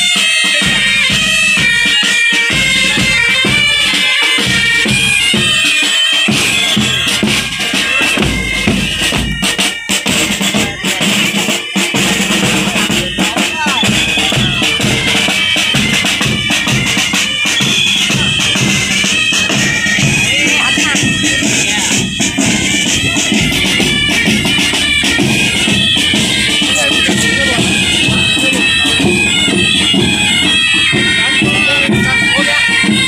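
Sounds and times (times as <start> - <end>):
bagpipes playing melody: 0.0 - 33.0
snare and bass drums: 0.0 - 33.0.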